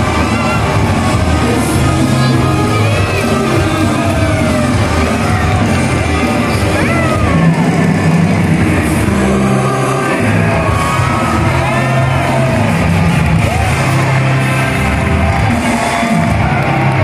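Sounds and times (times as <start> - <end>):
backing music with held bass: 0.0 - 17.0.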